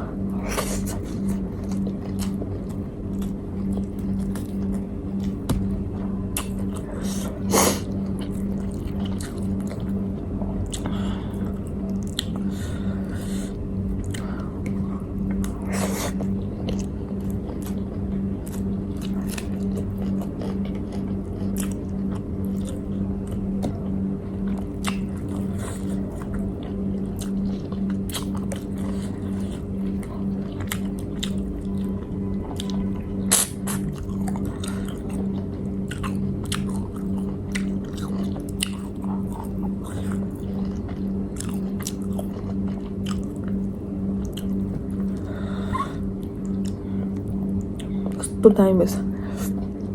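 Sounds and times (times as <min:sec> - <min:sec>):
steady low hum: 0:00.0 - 0:49.9
person chewing and biting: 0:00.4 - 0:05.8, 0:06.4 - 0:10.0, 0:10.6 - 0:23.8, 0:24.5 - 0:46.8.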